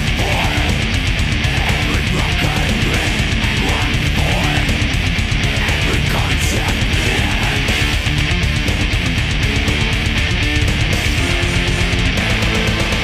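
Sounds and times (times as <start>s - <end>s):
distorted electric guitar riffing: 0.0s - 13.0s
fast driving drums: 0.0s - 13.0s.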